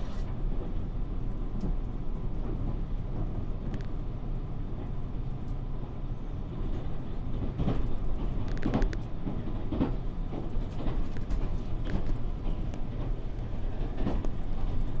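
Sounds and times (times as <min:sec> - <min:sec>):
electric train motors rumbling: 0:00.0 - 0:15.0
rail clacks: 0:00.0 - 0:15.0.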